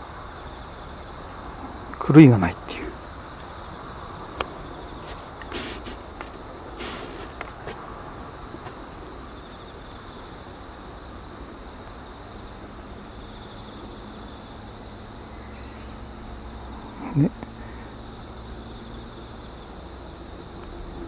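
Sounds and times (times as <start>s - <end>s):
cicadas droning: 0.0s - 21.0s
low outdoor hiss: 0.0s - 21.0s.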